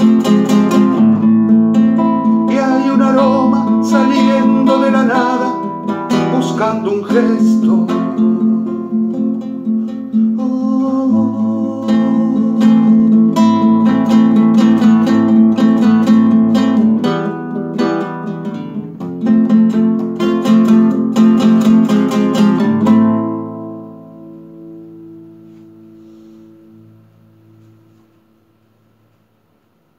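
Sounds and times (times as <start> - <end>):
classical guitar strumming and plucking: 0.0 - 29.2.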